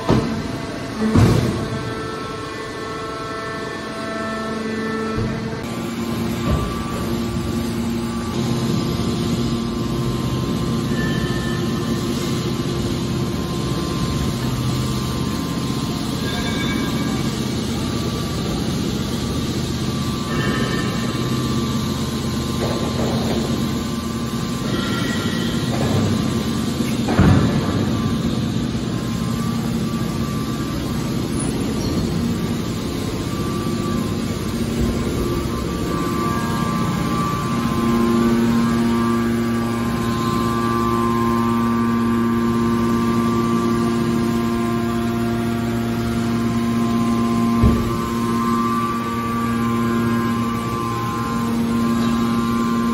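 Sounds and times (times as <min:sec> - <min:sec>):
hydraulic power unit humming: 0:00.0 - 0:52.9.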